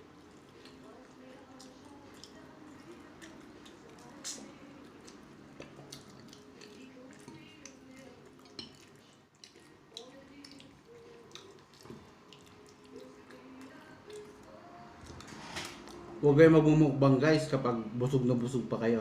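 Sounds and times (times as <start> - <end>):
chewing and mouth smacks: 0.2 - 16.0.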